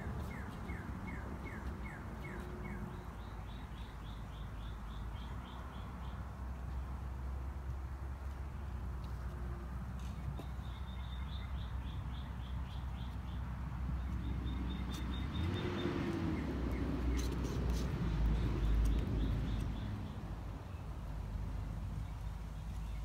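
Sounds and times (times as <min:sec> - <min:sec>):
songbird chirping: 0:00.0 - 0:09.3, 0:10.0 - 0:23.0.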